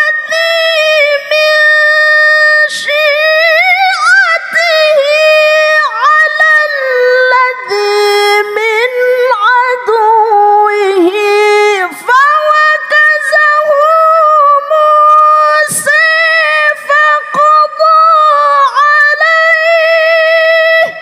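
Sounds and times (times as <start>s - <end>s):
woman's melodic recitation: 0.0s - 21.0s.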